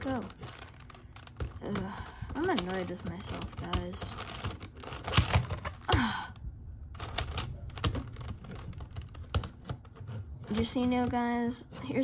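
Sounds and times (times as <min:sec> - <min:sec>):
plastic puzzle cube clicking: 0:00.1 - 0:06.0, 0:07.0 - 0:11.1.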